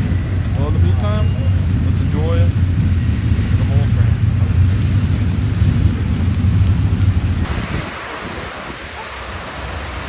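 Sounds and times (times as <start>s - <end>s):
freight train rumbling past: 0.0s - 10.0s
steady rain hissing: 0.0s - 10.0s.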